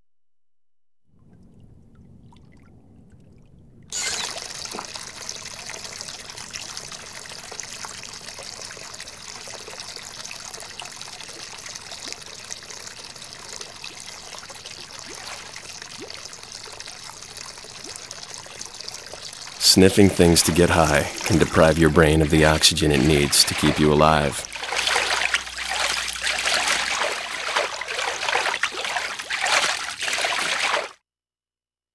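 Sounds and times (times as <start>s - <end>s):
water trickling and pouring: 1.2s - 31.0s.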